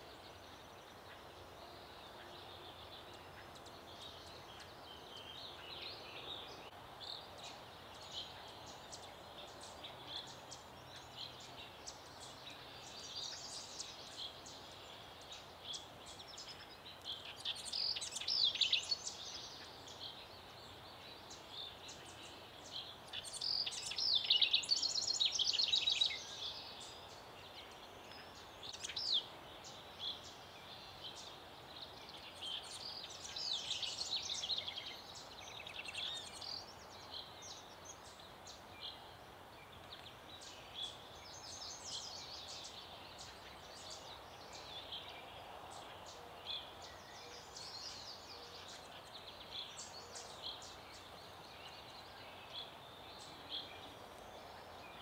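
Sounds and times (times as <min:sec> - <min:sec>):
faint steady background hiss: 0:00.0 - 0:55.0
wild birds chirping: 0:00.0 - 0:55.0.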